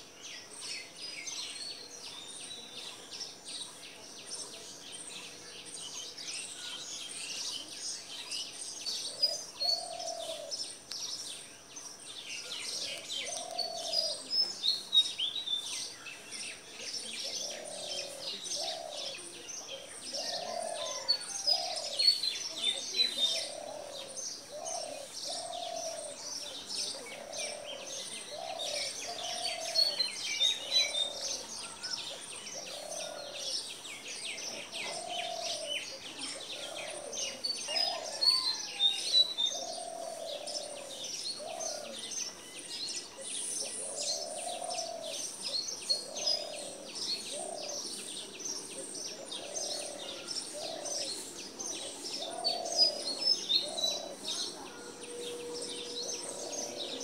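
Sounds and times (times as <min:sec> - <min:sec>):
small songbirds chirping: 0:00.0 - 0:57.0
bird cooing: 0:00.6 - 0:11.4, 0:12.4 - 0:57.0.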